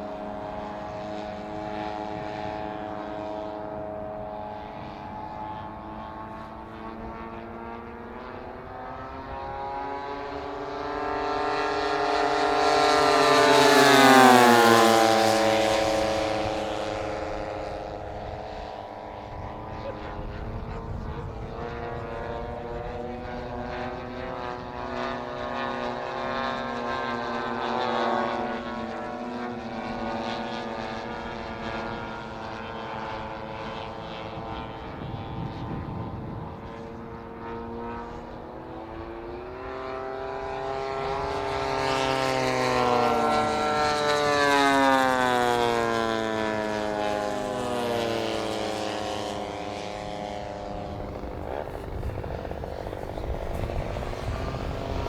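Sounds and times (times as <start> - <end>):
model airplane engines flying past: 0.0 - 55.0.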